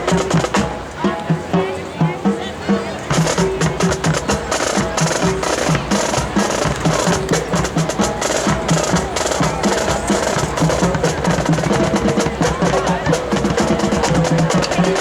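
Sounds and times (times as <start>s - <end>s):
snare drum strokes and rolls: 0.0s - 15.0s.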